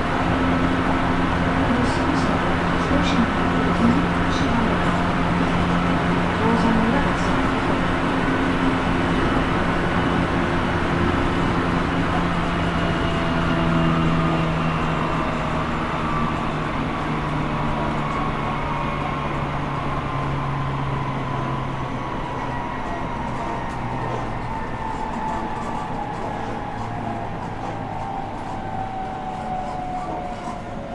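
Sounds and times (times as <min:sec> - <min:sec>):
traction motor whine: 0:00.0 - 0:30.9
wheel and rail rumble: 0:00.0 - 0:30.9.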